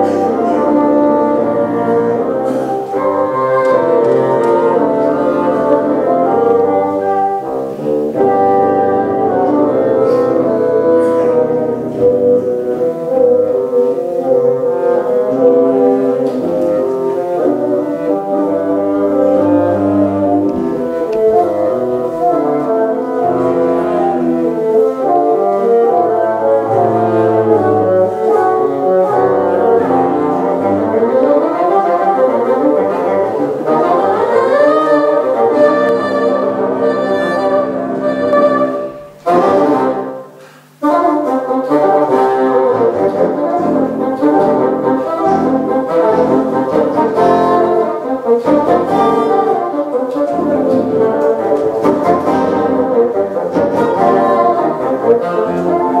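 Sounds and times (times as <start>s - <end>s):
bassoon quartet playing: 0.0s - 56.0s.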